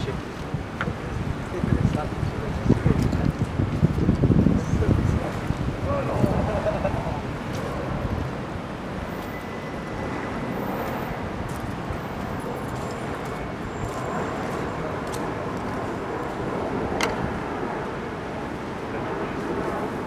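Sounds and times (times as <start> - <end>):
traffic rumble: 0.0 - 20.0
wind: 0.0 - 20.0.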